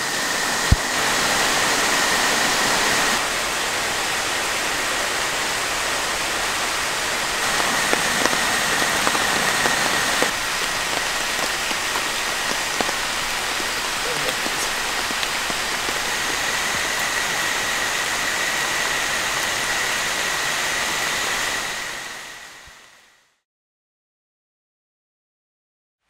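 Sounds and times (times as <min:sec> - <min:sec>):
torrential rain pouring: 0:00.0 - 0:22.5.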